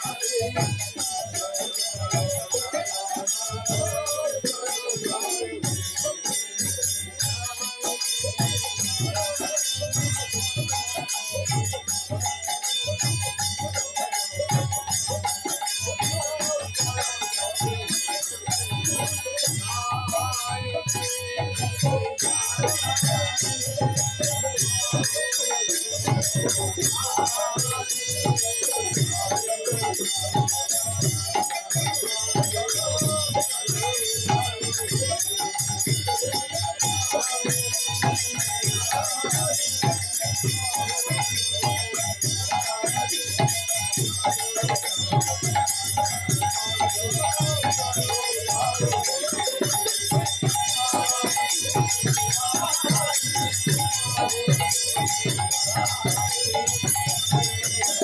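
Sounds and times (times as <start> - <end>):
hand drums beating fast rhythm: 0.0 - 58.0
small hand cymbals jingling: 0.0 - 58.0.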